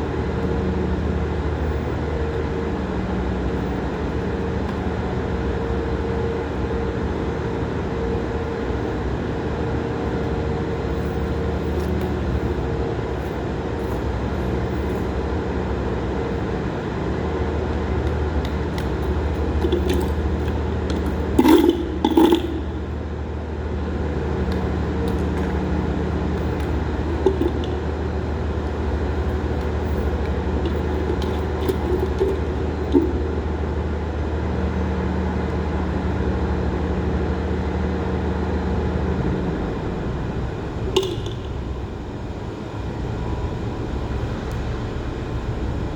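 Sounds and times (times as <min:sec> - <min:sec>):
mechanical hum: 0:00.0 - 0:45.9.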